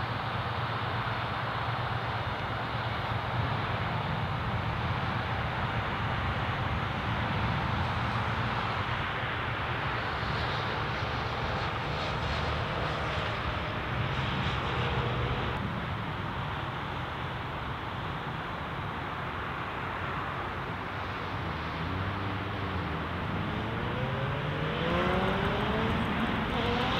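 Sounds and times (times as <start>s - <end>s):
drone of distant engines: 0.0s - 26.9s.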